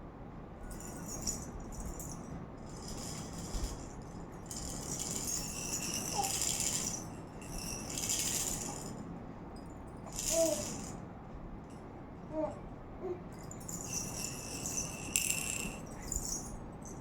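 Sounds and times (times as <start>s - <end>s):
baby's rattle toy shaken: 0.7s - 9.1s, 9.9s - 11.1s, 12.3s - 17.0s.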